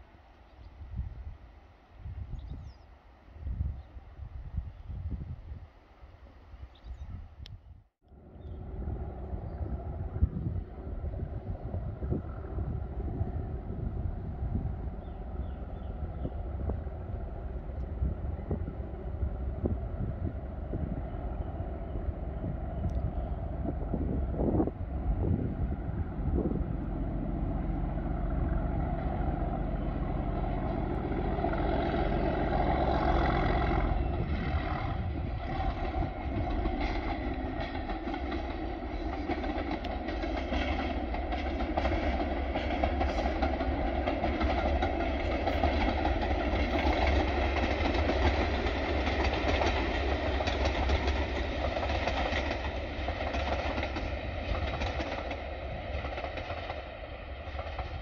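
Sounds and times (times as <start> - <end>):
diesel locomotive engine under load: 8.1 - 58.0
train wheel noise: 8.6 - 58.0.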